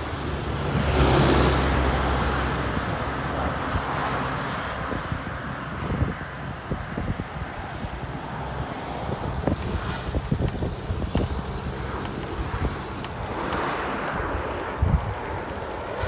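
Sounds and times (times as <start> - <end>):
jet engines rushing: 0.0 - 16.0
wind buffeting microphone: 0.0 - 16.0.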